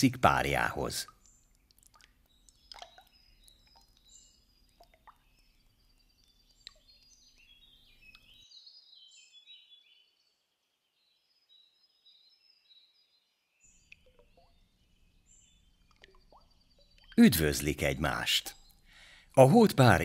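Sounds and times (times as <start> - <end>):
faint bird calls and chirps: 0.0 - 20.0.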